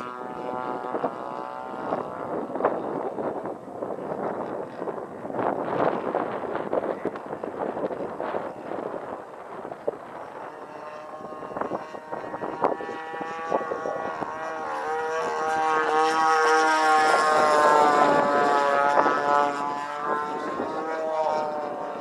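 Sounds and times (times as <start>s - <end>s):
model plane motor droning: 0.0s - 22.0s
wind on the microphone: 0.0s - 22.0s.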